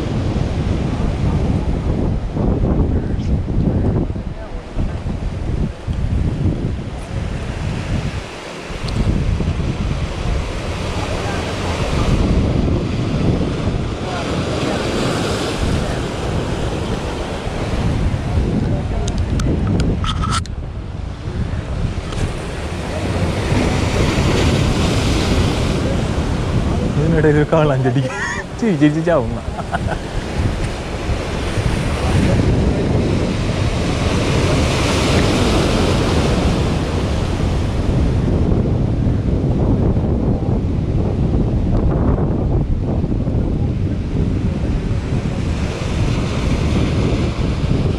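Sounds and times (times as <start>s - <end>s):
sea surf washing in: 0.0s - 47.9s
wind rumbling on microphone: 0.0s - 47.9s.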